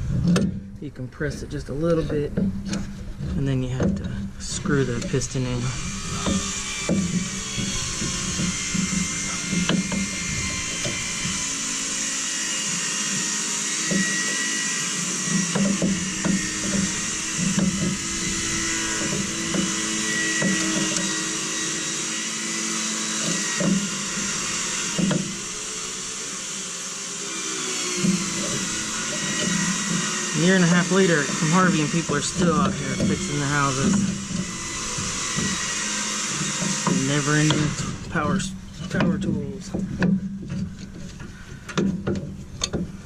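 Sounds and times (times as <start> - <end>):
power tools running: 1.7 - 43.0.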